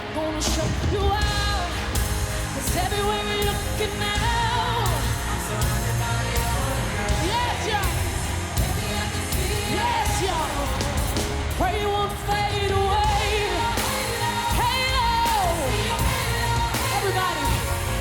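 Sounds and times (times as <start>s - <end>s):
band playing pop ballad: 0.0s - 18.0s
woman singing wordless runs: 2.6s - 18.0s.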